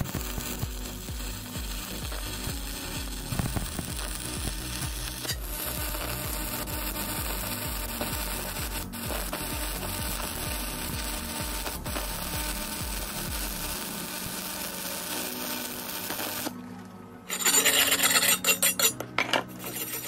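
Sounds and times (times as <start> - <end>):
welding arc crackling: 0.0 - 16.6, 17.3 - 20.0.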